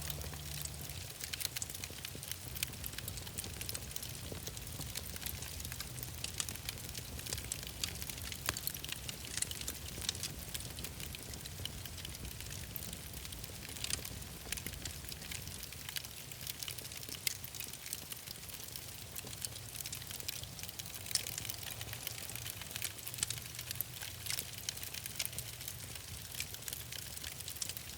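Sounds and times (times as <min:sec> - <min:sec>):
fire popping and snapping: 0:00.0 - 0:27.9
wood fire crackling: 0:00.0 - 0:27.9.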